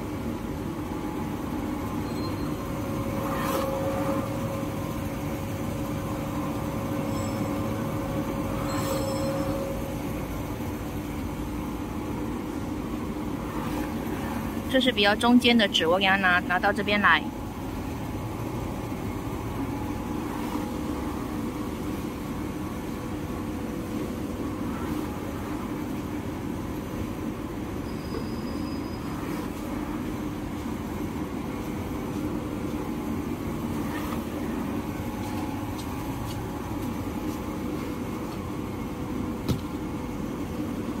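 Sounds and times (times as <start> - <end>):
constant hum tones: 0.0 - 41.0
paper machinery droning: 0.0 - 41.0.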